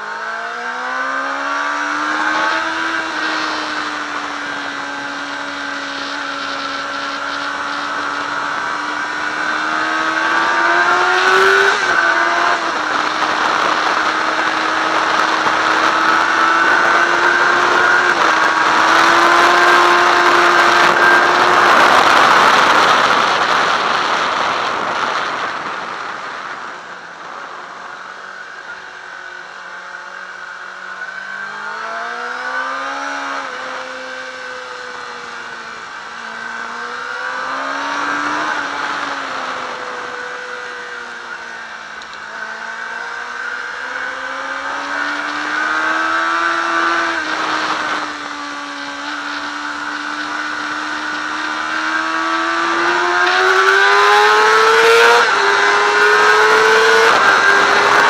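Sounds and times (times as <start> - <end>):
motorcycle engine at speed: 0.0 - 58.0
wind rushing on microphone: 1.8 - 28.8, 32.7 - 58.0.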